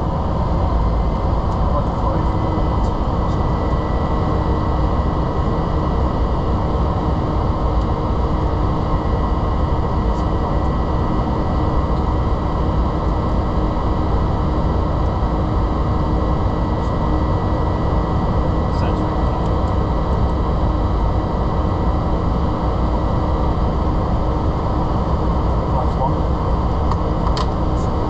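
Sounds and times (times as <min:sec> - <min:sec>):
jet engine rushing in cabin: 0:00.0 - 0:28.0
thin steady whine: 0:00.0 - 0:28.0.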